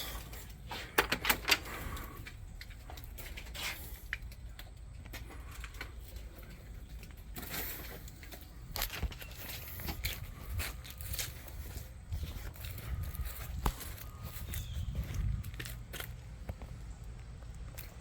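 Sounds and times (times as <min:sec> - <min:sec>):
faint footsteps and handling: 0:00.0 - 0:18.0
steady low rumble: 0:01.7 - 0:18.0.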